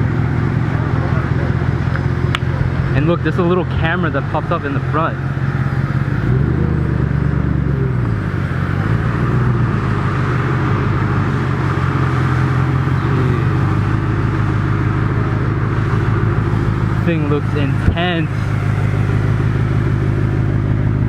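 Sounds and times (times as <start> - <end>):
car engine running at low speed: 0.0 - 21.0.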